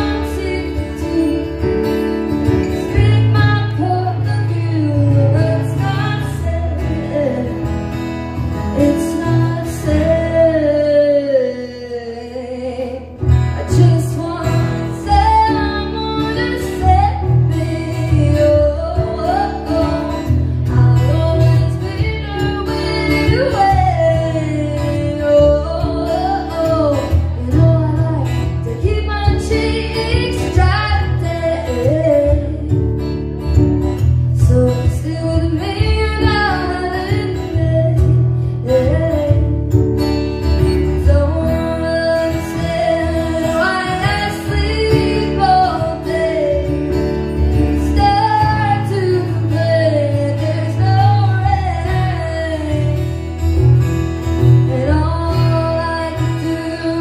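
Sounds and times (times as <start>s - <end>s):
woman singing: 0.0s - 53.7s, 54.4s - 57.0s
strummed acoustic guitar: 0.0s - 57.0s.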